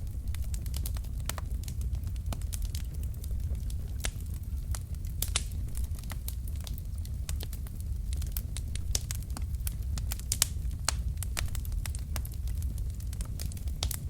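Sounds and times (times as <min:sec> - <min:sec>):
logs crackling and popping: 0:00.0 - 0:14.0
low rumble of fire: 0:00.0 - 0:14.0.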